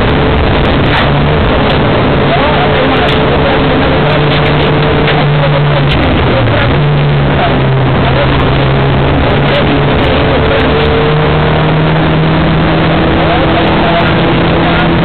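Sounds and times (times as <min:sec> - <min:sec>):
rally car engine under load: 0:00.0 - 0:15.0
tyre and road noise: 0:00.0 - 0:15.0.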